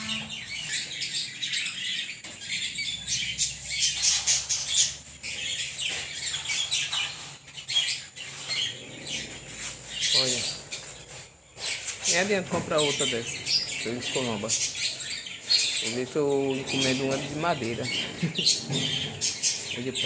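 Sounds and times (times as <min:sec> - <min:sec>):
dog bed scraping on concrete: 0:03.4 - 0:20.0.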